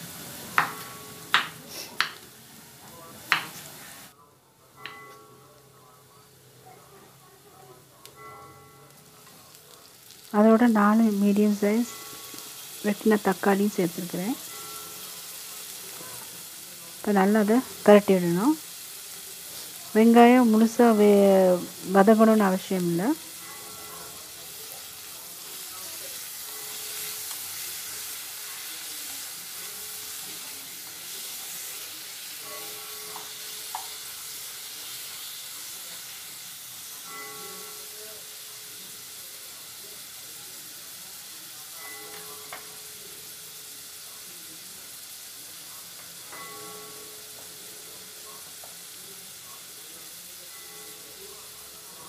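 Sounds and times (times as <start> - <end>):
onions sizzling in hot oil: 0.0 - 4.2, 4.8 - 52.0.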